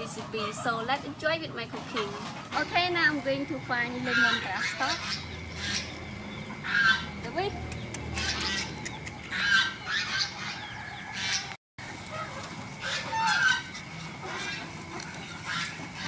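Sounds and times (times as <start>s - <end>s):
poultry calling: 0.0s - 16.0s.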